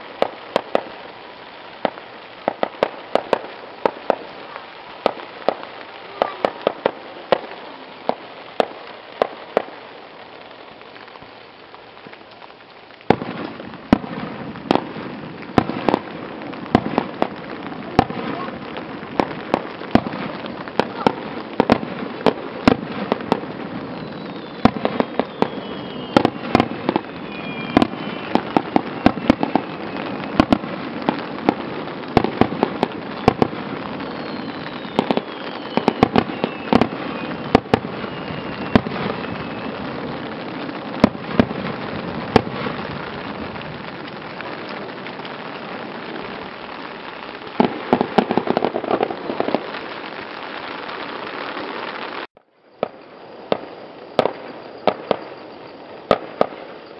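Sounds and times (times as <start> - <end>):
fireworks bursting and crackling: 0.0 - 56.9
fireworks falling whistles: 0.0 - 56.9.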